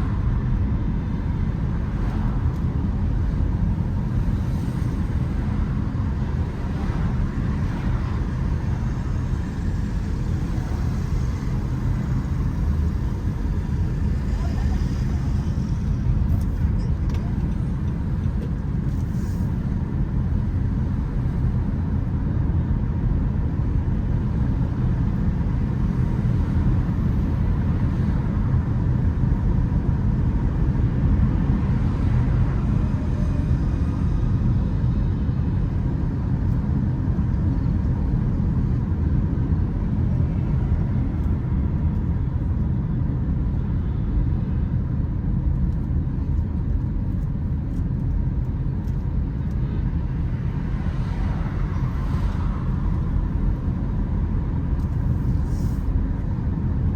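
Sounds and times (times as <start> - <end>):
road vehicle rumble: 0.0 - 56.9.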